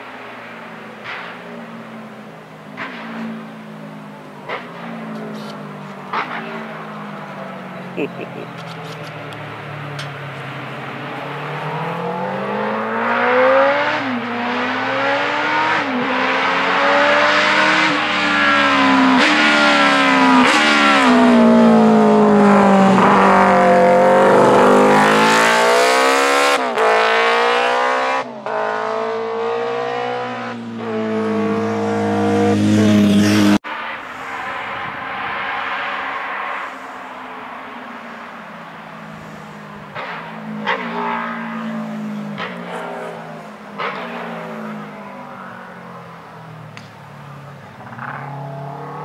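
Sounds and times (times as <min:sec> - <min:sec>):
racing motorcycle engine revving: 0:02.7 - 0:34.0, 0:39.7 - 0:49.0.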